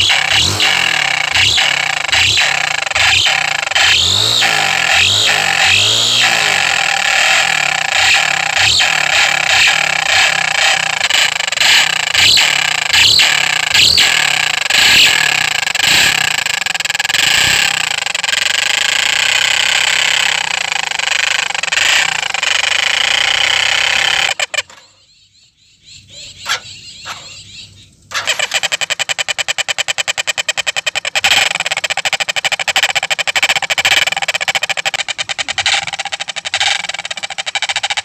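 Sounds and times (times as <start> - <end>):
motorcycle exhaust: 0.0 - 38.0.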